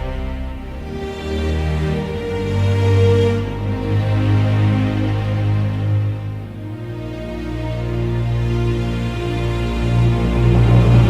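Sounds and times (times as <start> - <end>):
background music with held tones: 0.0 - 11.0
steady low note: 0.0 - 11.0.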